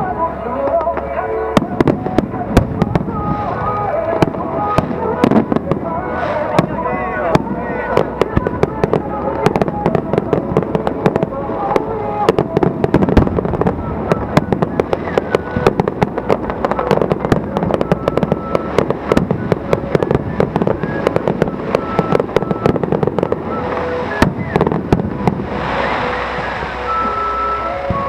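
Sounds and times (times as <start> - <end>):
fireworks bangs and cracks: 0.0 - 28.0
fireworks crackling hiss: 0.7 - 28.0.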